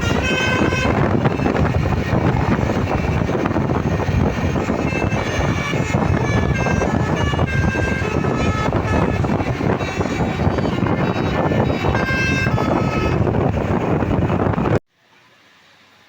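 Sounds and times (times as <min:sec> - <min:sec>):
bus horns playing melodies: 0:00.0 - 0:14.7
bus engines and traffic rumble: 0:00.0 - 0:16.0.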